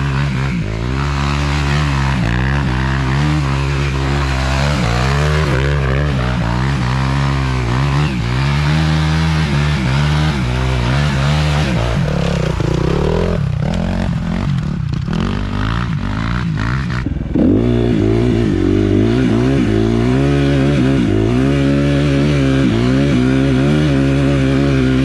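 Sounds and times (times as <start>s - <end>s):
small engine revving: 0.0s - 25.0s.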